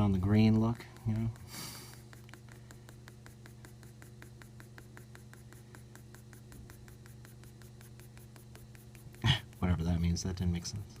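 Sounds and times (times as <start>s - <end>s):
pencil scratching on paper: 0.0s - 10.7s
low steady hum: 0.0s - 11.0s.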